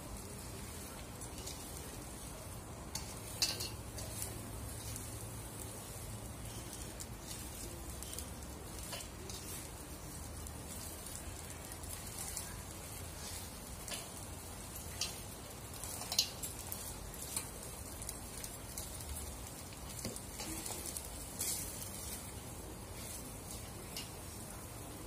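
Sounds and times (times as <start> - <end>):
food sizzling in a wok: 0.0 - 25.0
spatula scraping a pan: 0.6 - 24.4.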